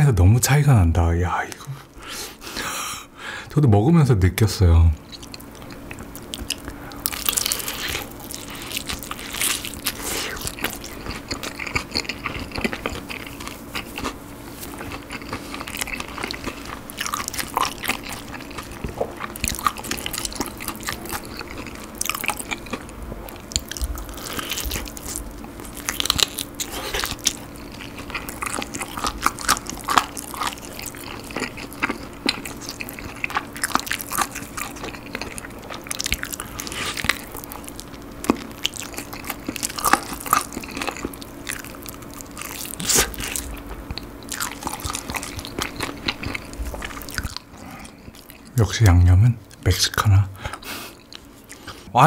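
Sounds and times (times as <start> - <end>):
crunching and chewing fried chicken: 5.0 - 51.9.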